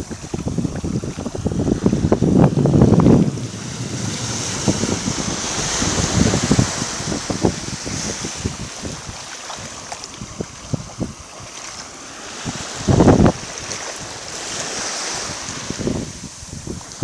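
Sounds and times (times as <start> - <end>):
small waves washing on sand: 0.0 - 17.0
wind buffeting the microphone: 0.0 - 17.0.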